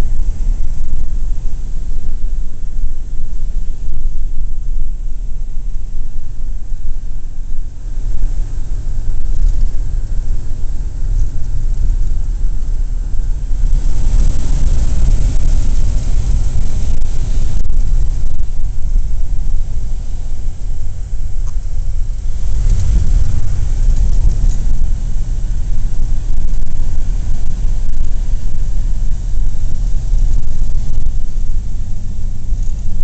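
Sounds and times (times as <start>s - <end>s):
car engine rumble: 0.0s - 33.0s
wind and road hiss: 0.0s - 33.0s.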